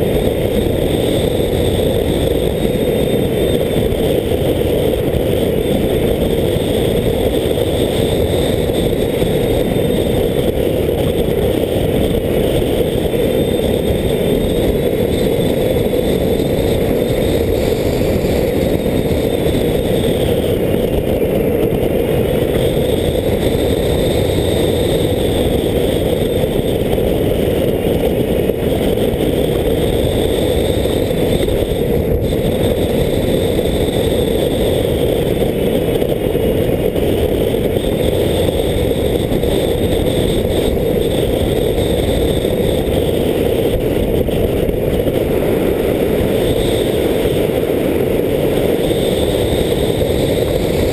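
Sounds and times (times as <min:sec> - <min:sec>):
dense rushing noise: 0:00.0 - 0:50.9
model aircraft motor whine: 0:00.0 - 0:50.9.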